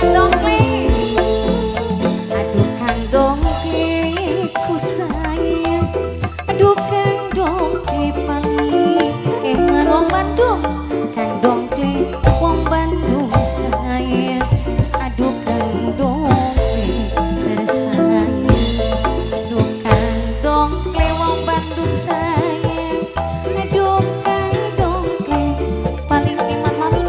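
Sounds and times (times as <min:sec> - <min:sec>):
bass and percussion beat: 0:00.0 - 0:27.0
live band music: 0:00.0 - 0:27.0
wavering melody line: 0:00.0 - 0:27.0.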